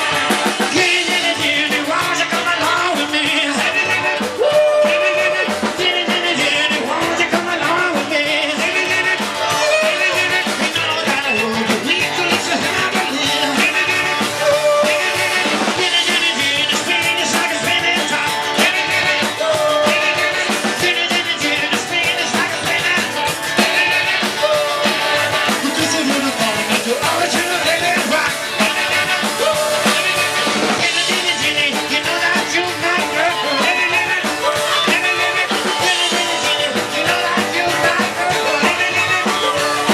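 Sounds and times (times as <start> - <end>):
drum kit: 0.0 - 39.9
rock and roll band playing: 0.0 - 39.9.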